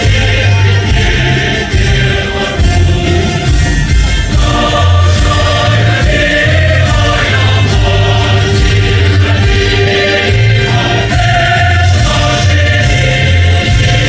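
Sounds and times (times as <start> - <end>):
choir singing: 0.0 - 14.0
heavy bass line: 0.0 - 14.0
instrumental accompaniment: 0.0 - 14.0.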